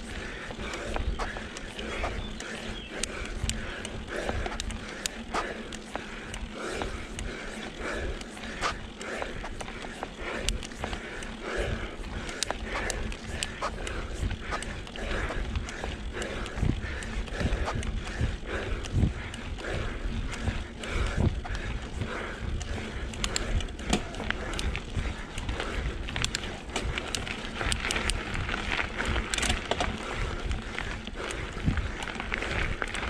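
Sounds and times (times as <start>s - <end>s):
low wind rumble: 0.0s - 33.0s
person panting: 0.0s - 33.0s
rolling tyre noise: 0.0s - 33.0s
small ticks from bike: 0.0s - 33.0s.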